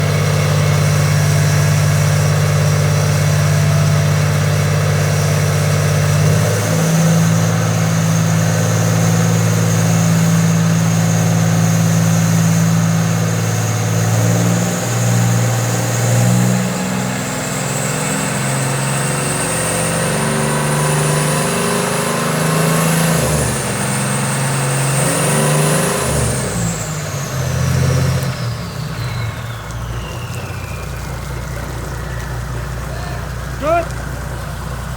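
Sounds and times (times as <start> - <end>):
marine diesel engines running: 0.0 - 34.9
turbocharger whistle: 5.0 - 34.0.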